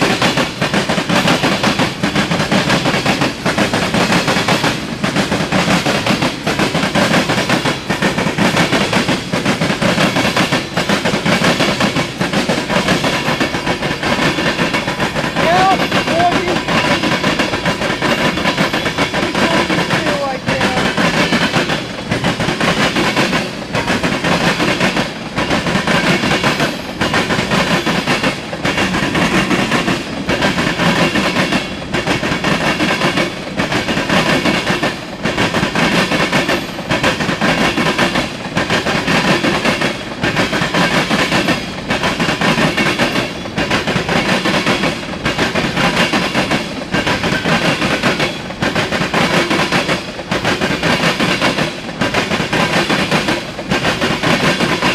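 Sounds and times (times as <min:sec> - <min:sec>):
freight train wheels clattering on rails: 0:00.0 - 0:54.9.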